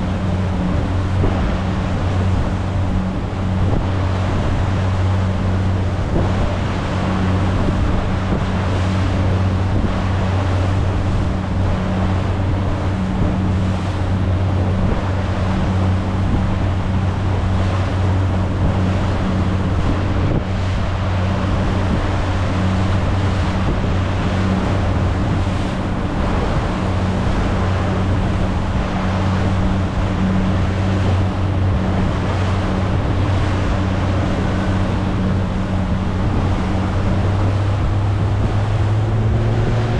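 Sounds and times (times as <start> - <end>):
speedboat engine running: 0.0 - 39.9
water rushing past hull: 0.0 - 39.9
wind buffeting microphone: 0.0 - 39.9.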